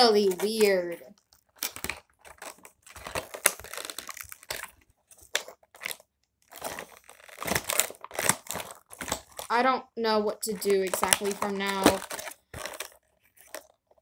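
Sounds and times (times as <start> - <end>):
plastic packaging crinkling: 0.0 - 9.7, 10.4 - 14.0.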